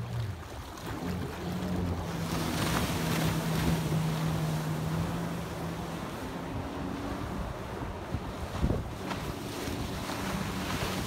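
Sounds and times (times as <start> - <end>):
boat engine drone: 0.0 - 11.0
rushing water: 0.0 - 11.0
wind buffeting microphone: 0.4 - 11.0.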